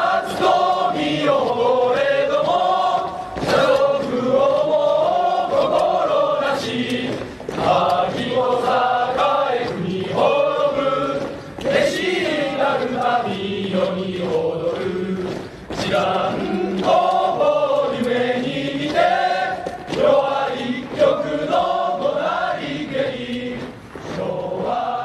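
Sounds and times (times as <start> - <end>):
choir singing slow song: 0.0 - 25.0.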